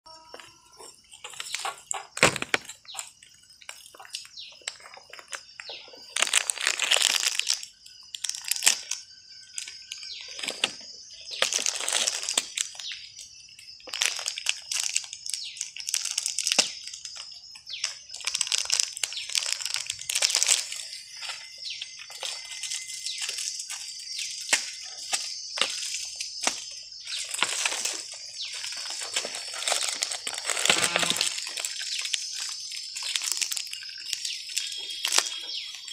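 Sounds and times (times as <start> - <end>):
plastic wrapper crinkling: 0.8 - 35.9.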